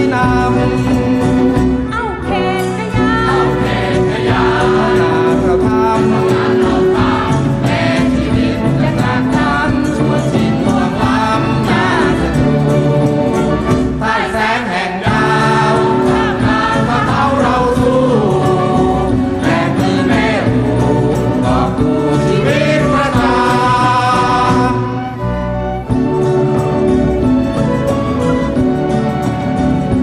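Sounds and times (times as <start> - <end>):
voices singing over held chords: 0.0 - 30.0.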